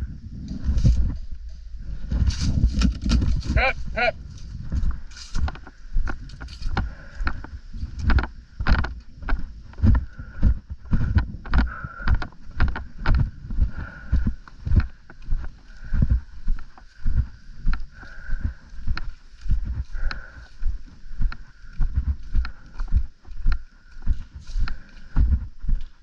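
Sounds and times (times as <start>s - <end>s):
walking footsteps: 0.0s - 26.0s.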